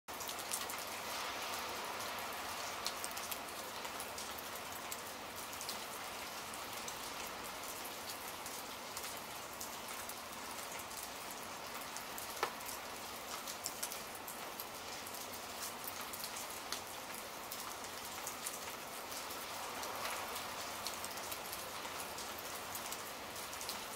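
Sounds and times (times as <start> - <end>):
steady rain: 0.1 - 23.9.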